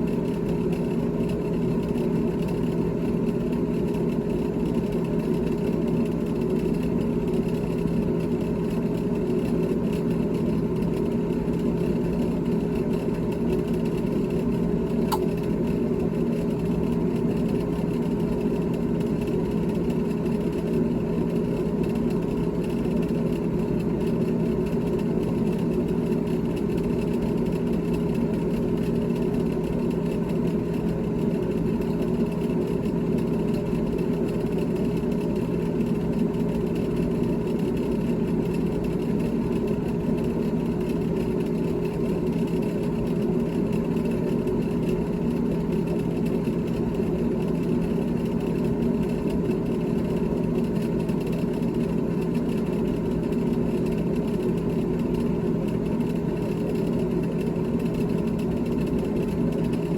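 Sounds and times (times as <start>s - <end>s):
refrigerator humming: 0.0s - 59.9s.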